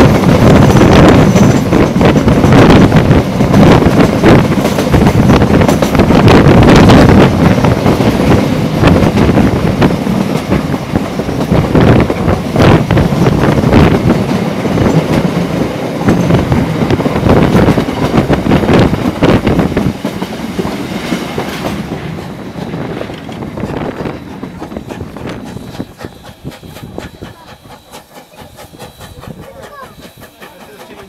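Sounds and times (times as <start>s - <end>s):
train rumbling along track: 0.0s - 31.0s
wheels clicking over rail joints: 3.4s - 6.2s, 7.9s - 31.0s.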